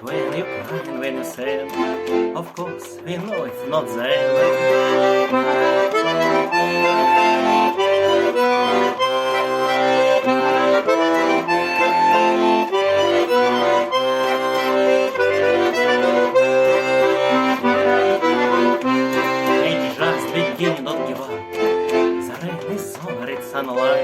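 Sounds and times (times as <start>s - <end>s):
instrumental chords over bass line: 0.0s - 24.0s.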